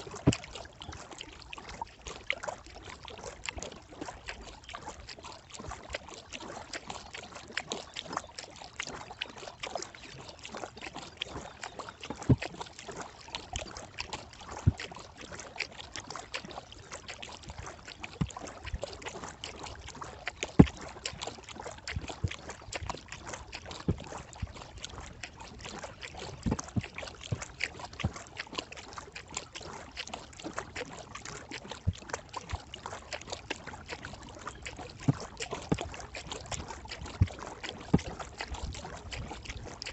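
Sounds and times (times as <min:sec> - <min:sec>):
paddle splashing: 0:00.0 - 0:39.9
water dripping: 0:00.0 - 0:39.9.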